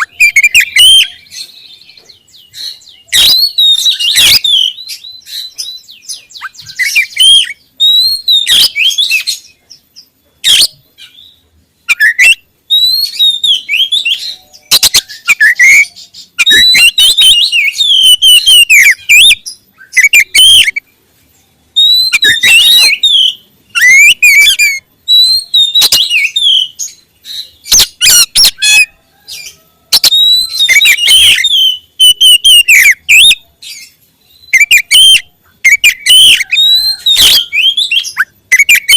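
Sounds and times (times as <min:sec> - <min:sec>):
bird singing loudly: 0:00.0 - 0:20.9, 0:21.7 - 0:38.9.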